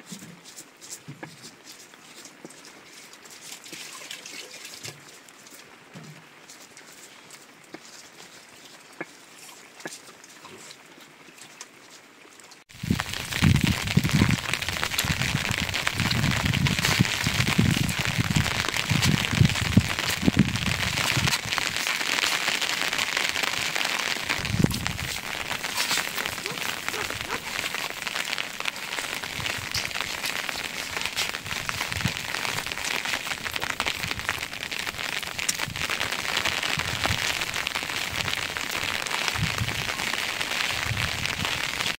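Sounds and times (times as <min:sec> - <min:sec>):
rain patter: 0:00.0 - 0:42.0.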